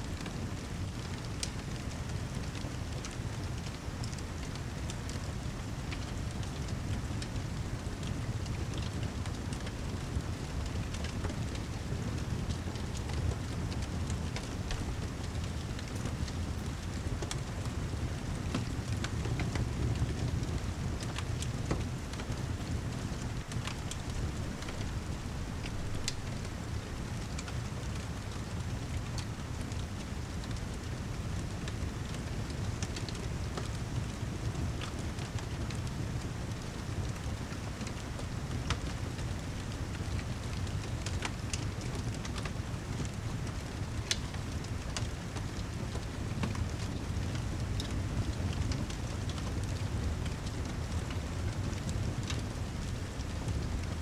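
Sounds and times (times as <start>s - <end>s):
fireplace crackling and popping: 0.0s - 54.0s
steady rain: 0.0s - 54.0s.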